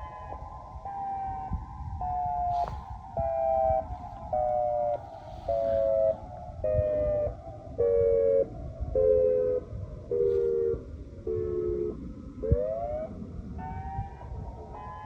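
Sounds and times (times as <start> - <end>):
pulsed electronic siren wail: 0.0 - 15.0.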